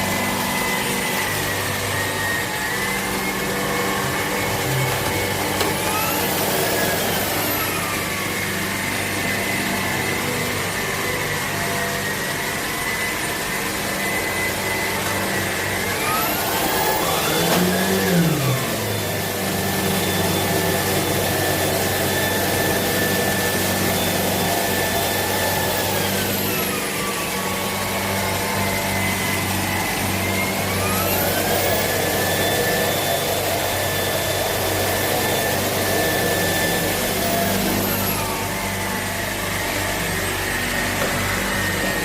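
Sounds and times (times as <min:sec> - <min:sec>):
stick vacuum motor whining: 0:00.0 - 0:42.0.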